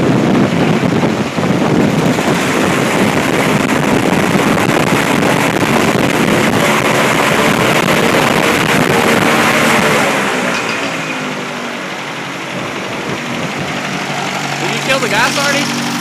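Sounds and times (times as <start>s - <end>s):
airboat engine running loud: 0.0s - 16.0s
wind noise on microphone: 0.0s - 16.0s.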